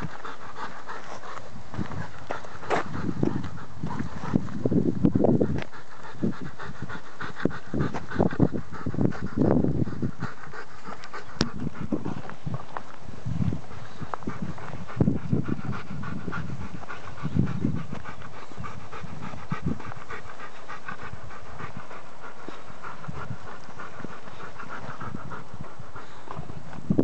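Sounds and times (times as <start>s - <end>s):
dog panting rapidly: 0.0s - 27.0s.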